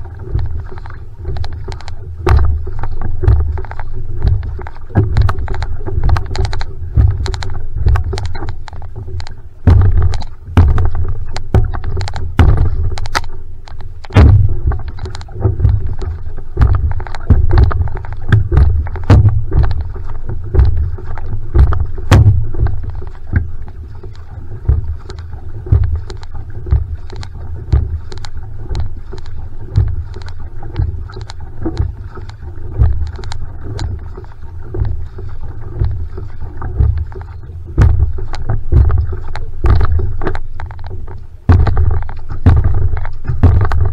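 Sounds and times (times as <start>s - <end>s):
low thump through canoe hull: 0.0s - 43.9s
paddle strokes splashing water: 0.0s - 43.9s.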